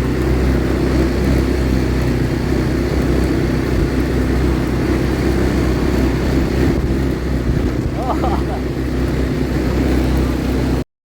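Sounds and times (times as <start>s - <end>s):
quad bike engine running: 0.0s - 10.8s.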